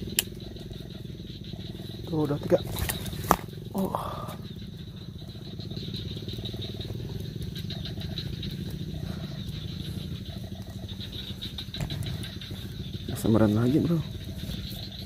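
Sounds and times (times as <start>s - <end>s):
frog croaking: 0.0s - 15.0s
insects trilling: 0.0s - 15.0s.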